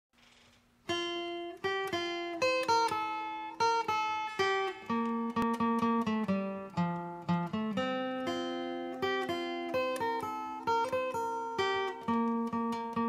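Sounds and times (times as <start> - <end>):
acoustic guitar picking melody: 0.8 - 13.0.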